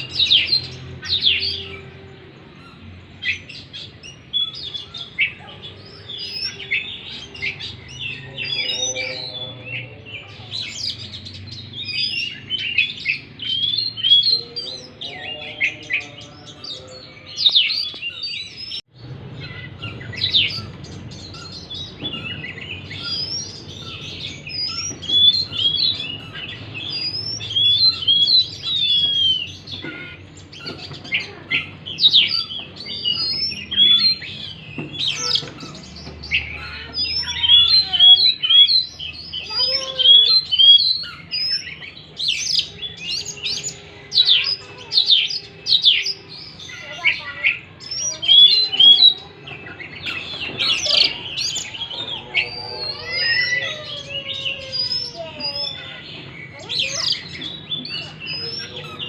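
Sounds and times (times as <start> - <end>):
bird song with whistles and trills: 0.0 - 59.0.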